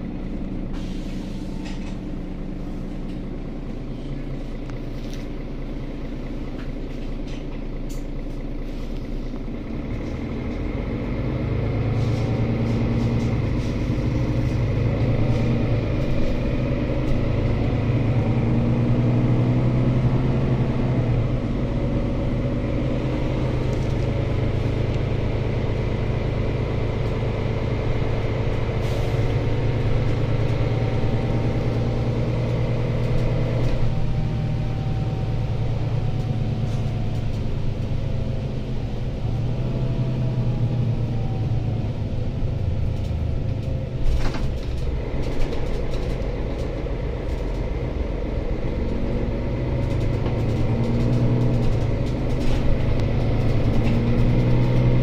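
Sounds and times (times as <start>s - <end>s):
bus diesel engine humming: 0.0s - 55.0s
road rumble: 0.0s - 55.0s.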